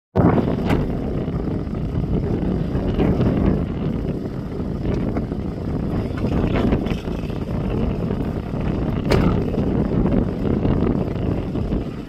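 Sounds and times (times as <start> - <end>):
wind buffeting microphone: 0.2 - 12.0.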